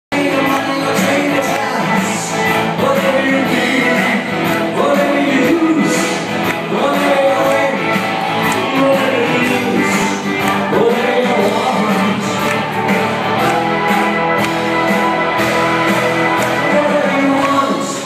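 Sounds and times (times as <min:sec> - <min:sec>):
loud song with singing voice: 0:00.1 - 0:18.0.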